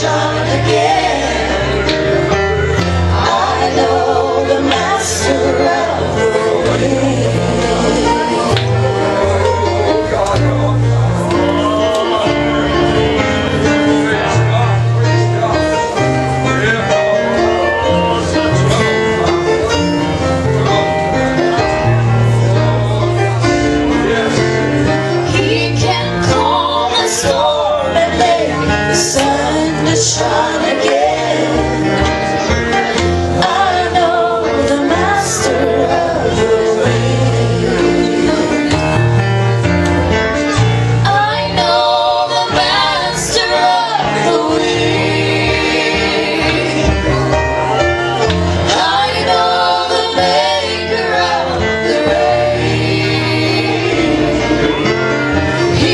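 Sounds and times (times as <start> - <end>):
voices singing: 0.0 - 55.9.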